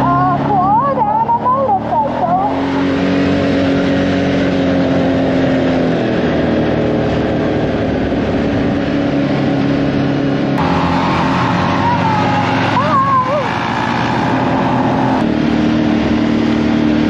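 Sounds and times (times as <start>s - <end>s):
off-road vehicle engine: 0.0s - 17.0s.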